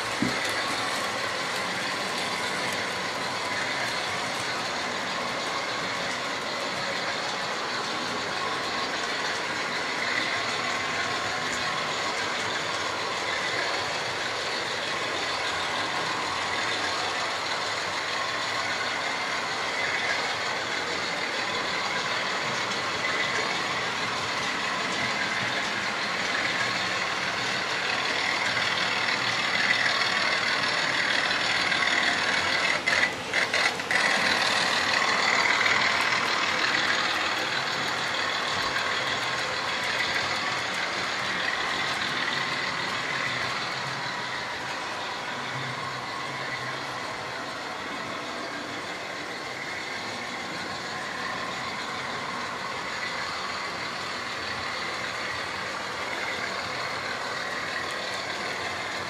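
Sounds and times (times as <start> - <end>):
small locomotive motors whining: 0.0 - 59.0
wheels rumbling on track: 0.0 - 59.0.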